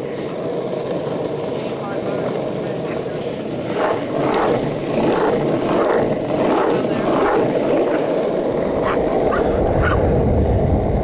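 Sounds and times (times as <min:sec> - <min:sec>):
longboard wheels rolling on asphalt: 0:00.0 - 0:11.0.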